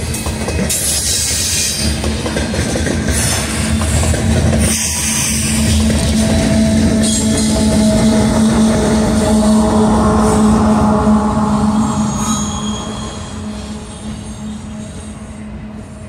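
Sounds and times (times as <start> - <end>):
diesel locomotive passing: 0.0 - 16.0
freight train wheels droning: 0.0 - 16.0.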